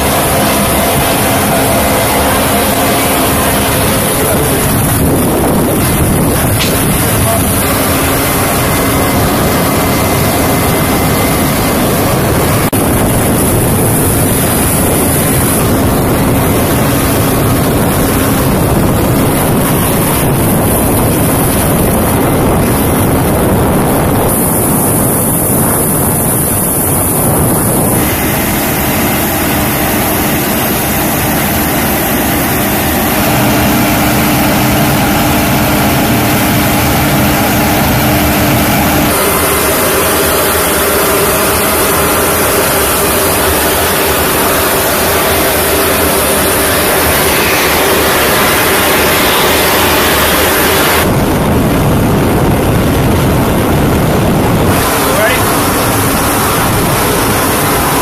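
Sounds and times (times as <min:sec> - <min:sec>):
high thin whine: 0:00.0 - 0:58.0
jet turbine noise: 0:00.0 - 0:58.0.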